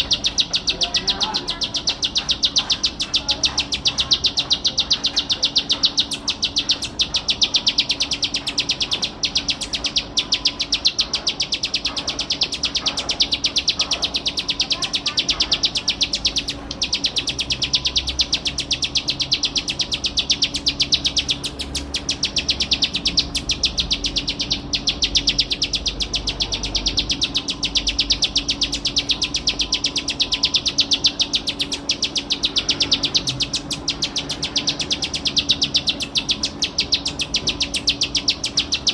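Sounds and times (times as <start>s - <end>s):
bird singing fast chatter: 0.0s - 38.9s.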